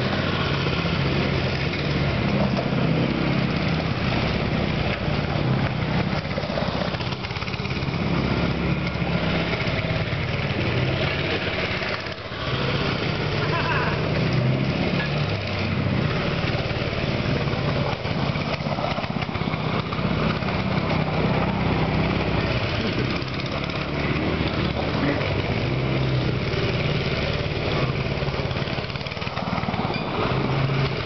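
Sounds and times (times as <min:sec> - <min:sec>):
go-kart engine circling: 0:00.0 - 0:31.0
mini bike engine: 0:00.0 - 0:31.0.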